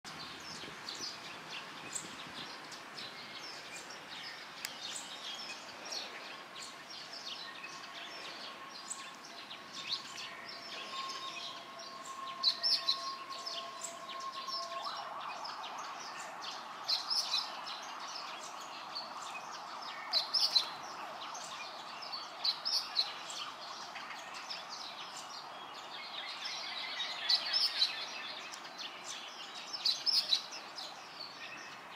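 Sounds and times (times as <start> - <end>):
small birds chirping: 0.0 - 31.9
steady background hiss: 0.1 - 31.9
faint steady tone: 0.2 - 31.9.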